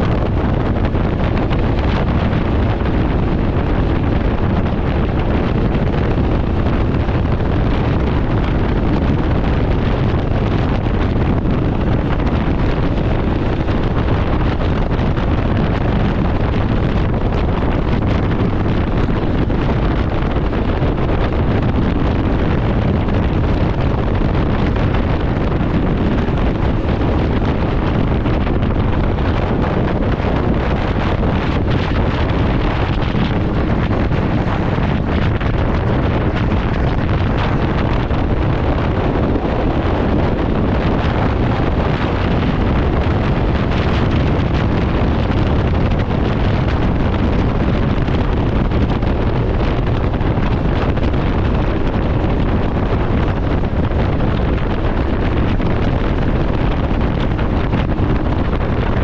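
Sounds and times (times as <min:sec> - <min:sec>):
vehicle engine and road noise: 0:00.0 - 0:59.0
wind rushing over microphone: 0:00.0 - 0:59.0.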